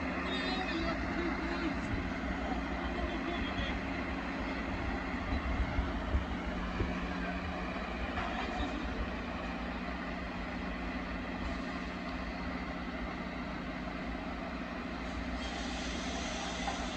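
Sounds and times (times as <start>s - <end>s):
truck diesel engines running: 0.0s - 16.9s.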